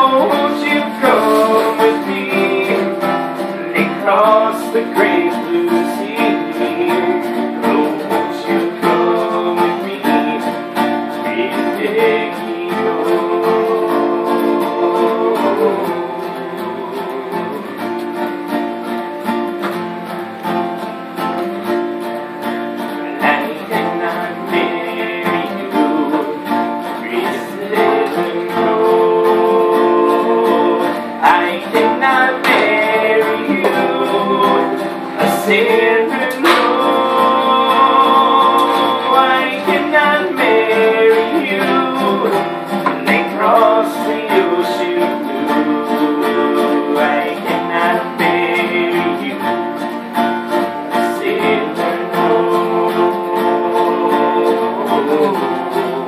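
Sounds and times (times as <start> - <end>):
person singing: 0.0 - 18.8, 22.8 - 56.0
acoustic guitar strumming: 0.0 - 56.0.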